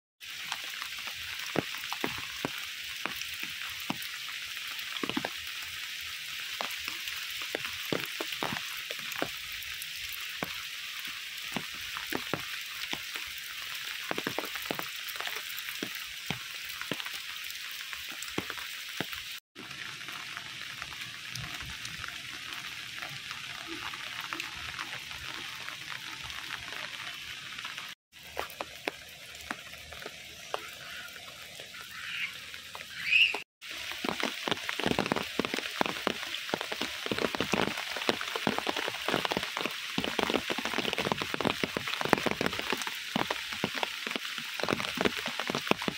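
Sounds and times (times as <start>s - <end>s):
steady rain falling: 0.2s - 45.9s
raindrops tapping: 0.3s - 45.9s.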